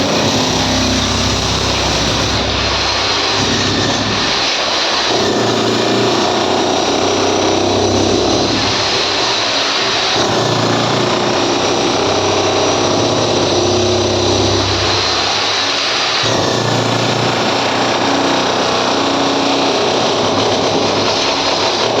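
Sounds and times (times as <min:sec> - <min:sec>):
power tool running: 0:00.0 - 0:22.0.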